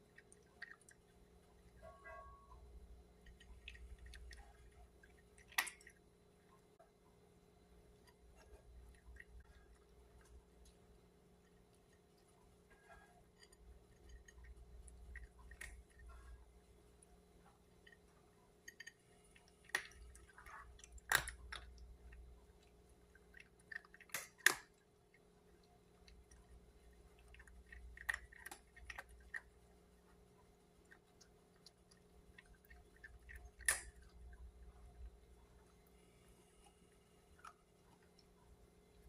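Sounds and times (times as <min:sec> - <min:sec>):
cat chewing food: 0:00.0 - 0:02.0, 0:02.6 - 0:39.0
faint steady hum: 0:00.0 - 0:39.0.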